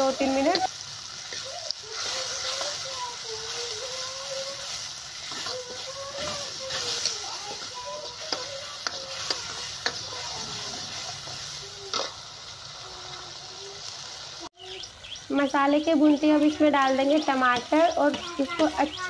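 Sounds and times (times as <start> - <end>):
spice paste sizzling in pan: 0.0 - 19.0.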